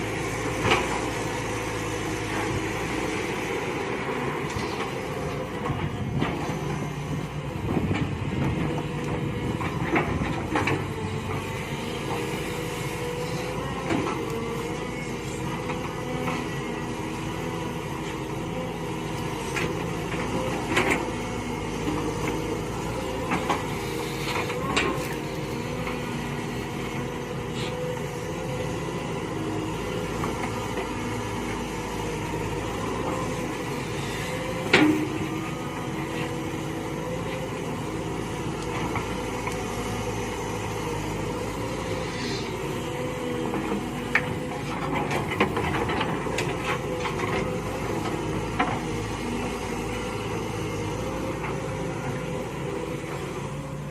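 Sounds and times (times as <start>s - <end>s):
excavator engine running: 0.0s - 53.9s.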